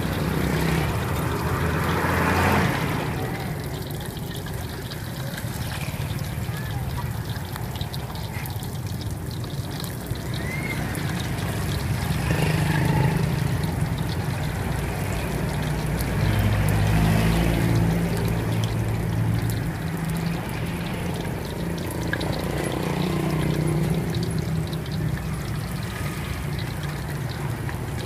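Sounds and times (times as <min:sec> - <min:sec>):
engine humming: 0:00.0 - 0:28.0
fritters deep-frying in oil: 0:00.0 - 0:28.0.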